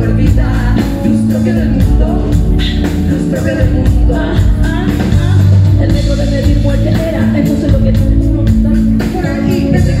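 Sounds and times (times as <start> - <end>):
drum kit: 0.0 - 10.0
electric bass guitar: 0.0 - 10.0
keyboards: 0.0 - 10.0
women singing: 0.0 - 10.0.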